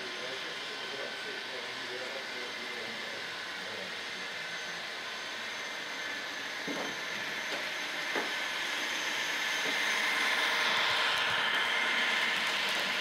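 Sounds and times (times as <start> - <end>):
model train whirring: 0.0 - 13.0.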